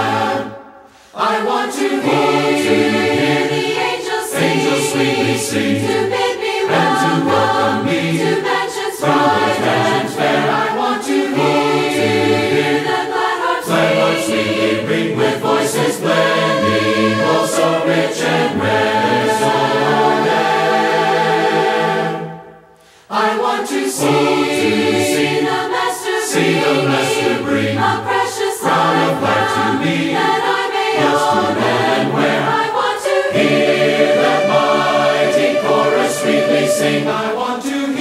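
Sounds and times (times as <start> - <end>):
choir singing in harmony: 0.0 - 38.0.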